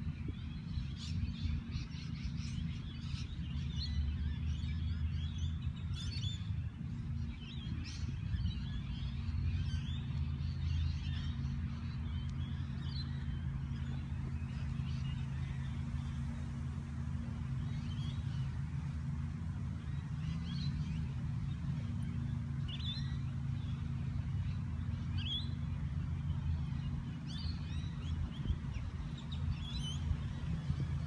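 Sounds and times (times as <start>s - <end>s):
birds chirping: 0.0s - 31.0s
steady low drone: 0.0s - 31.0s.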